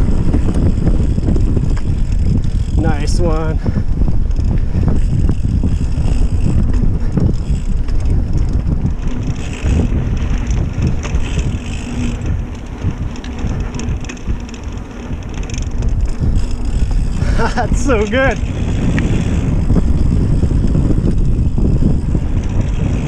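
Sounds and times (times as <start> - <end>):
bike knocks and rattles: 0.0 - 23.0
bike tyre noise: 0.0 - 23.0
wind buffeting microphone: 0.0 - 23.0.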